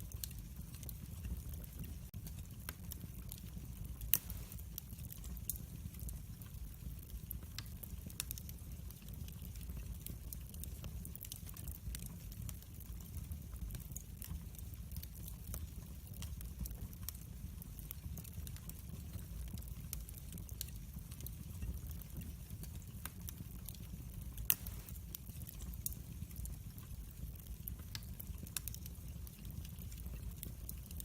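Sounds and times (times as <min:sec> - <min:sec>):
fire crackles and pops: 0:00.0 - 0:31.0
low rumble of flames: 0:00.0 - 0:31.0.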